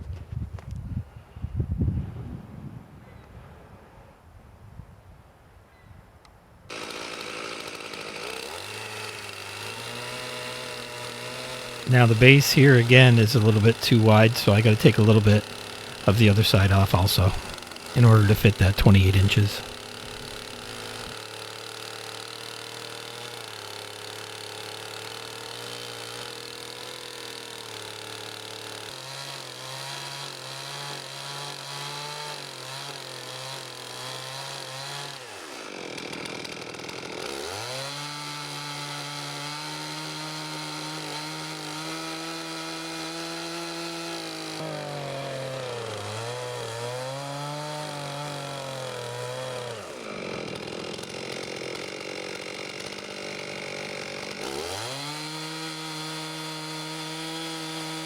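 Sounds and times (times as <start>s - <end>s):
chainsaw cutting log: 6.7s - 58.0s.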